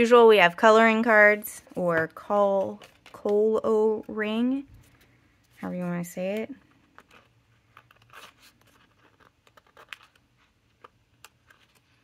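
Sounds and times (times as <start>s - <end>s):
paper cards rustling: 0.9s - 12.0s.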